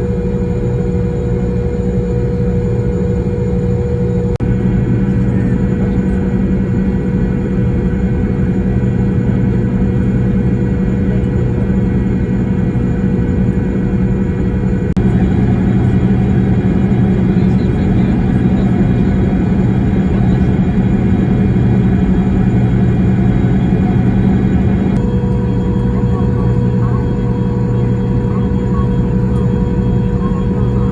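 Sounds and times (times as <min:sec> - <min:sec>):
vehicle engine humming: 0:00.0 - 0:30.9.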